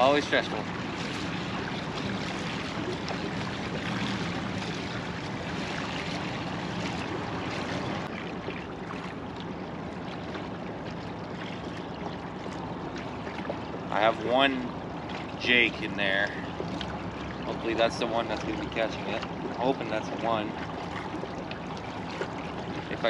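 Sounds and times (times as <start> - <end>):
boat motor running: 0.0 - 23.0
water rushing along hull: 0.0 - 23.0.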